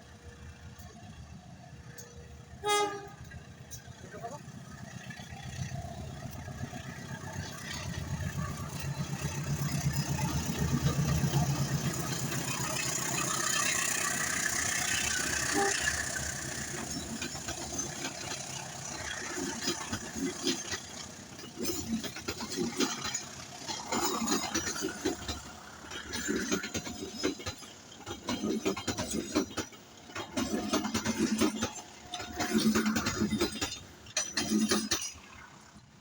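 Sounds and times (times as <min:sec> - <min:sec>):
diesel locomotive engine running: 0:00.0 - 0:36.0
train wheels hissing on rails: 0:00.0 - 0:36.0
wheel clacks over rail joints: 0:00.1 - 0:36.0.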